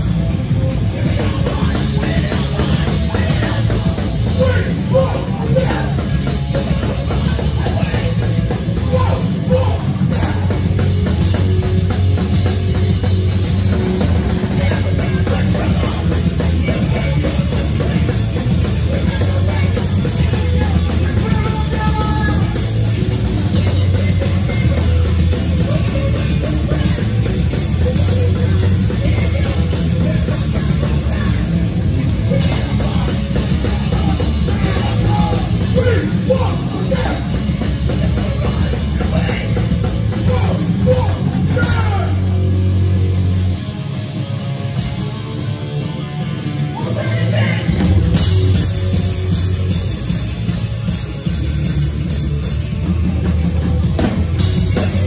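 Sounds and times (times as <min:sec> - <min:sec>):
hardcore band playing live: 0:00.0 - 0:55.0.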